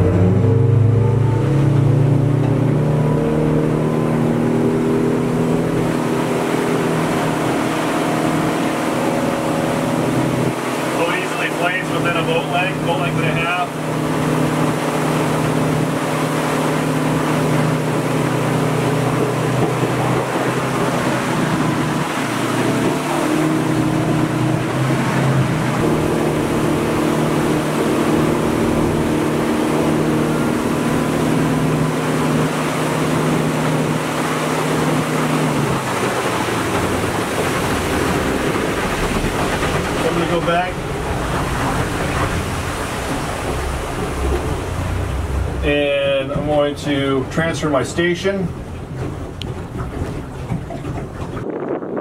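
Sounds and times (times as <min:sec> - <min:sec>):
outboard motor running: 0:00.0 - 0:52.0
water rushing along hull: 0:00.0 - 0:52.0.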